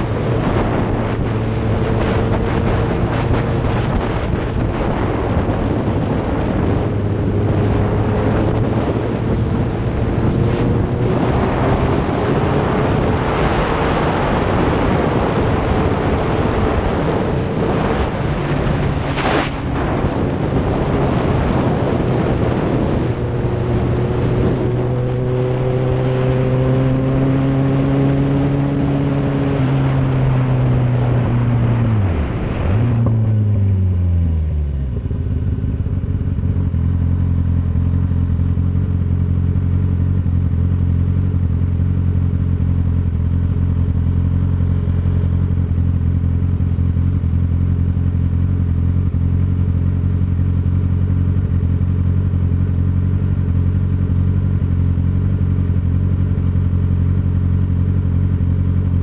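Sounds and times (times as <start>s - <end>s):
heavy wind: 0.0s - 56.0s
motorcycle engine: 0.0s - 59.0s.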